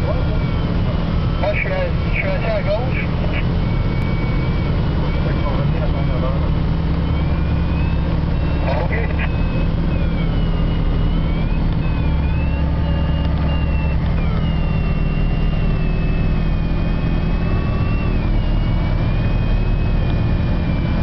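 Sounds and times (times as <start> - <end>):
light aircraft engine droning: 0.0 - 21.0.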